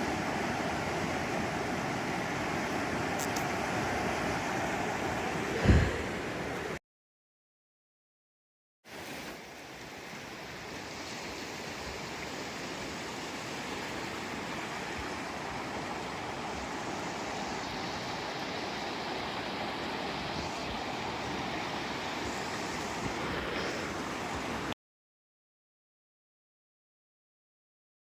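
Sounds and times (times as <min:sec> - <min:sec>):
river water rushing: 0:00.0 - 0:06.8, 0:08.9 - 0:24.7.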